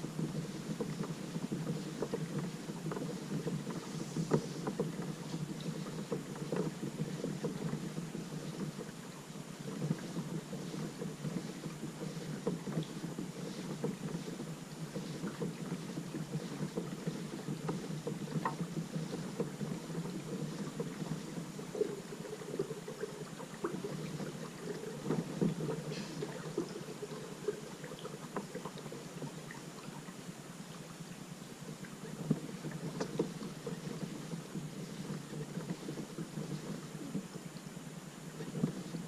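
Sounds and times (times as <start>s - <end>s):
water splashing around a kayak: 0.0s - 39.0s.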